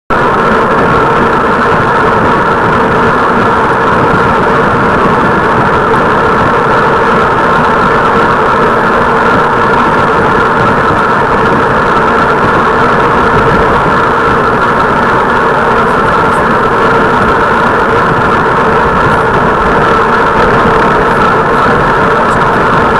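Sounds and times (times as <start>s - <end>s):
road and wind noise: 0.1s - 22.9s.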